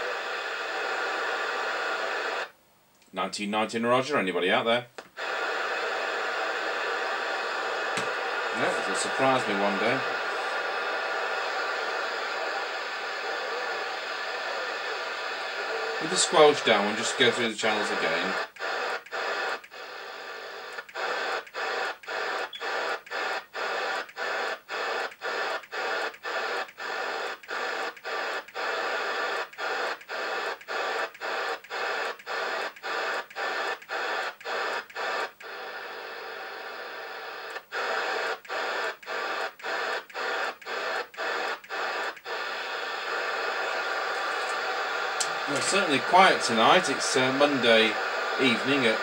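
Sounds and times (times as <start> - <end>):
radio static hiss: 0.0 - 2.6, 3.2 - 49.0.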